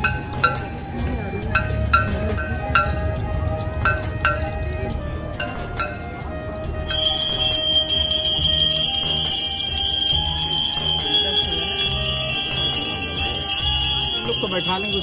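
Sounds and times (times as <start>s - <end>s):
bells ringing: 0.0s - 6.2s, 6.9s - 15.0s
low rhythmic beat: 0.0s - 15.0s.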